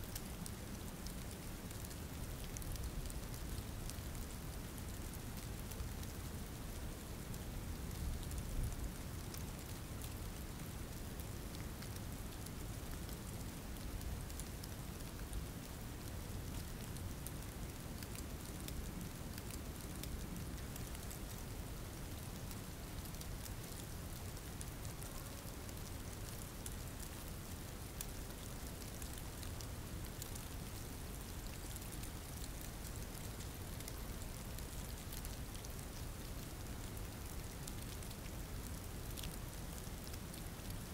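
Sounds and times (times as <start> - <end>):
rain drop ticks: 0.0 - 40.9
steady rain hiss: 0.0 - 40.9.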